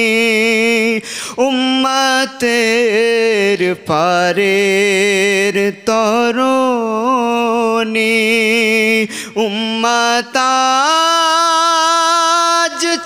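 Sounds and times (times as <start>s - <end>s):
man singing unaccompanied: 0.0s - 13.0s.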